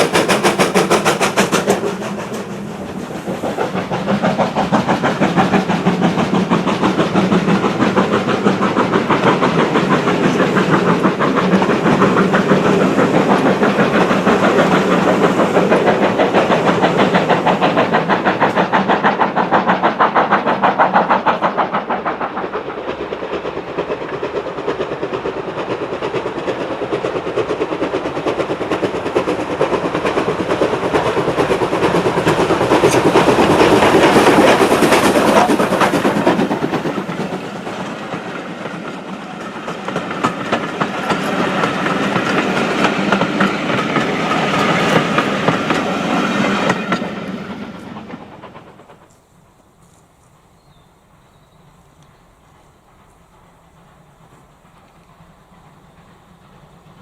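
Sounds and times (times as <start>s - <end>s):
steam train running: 0.0s - 57.0s.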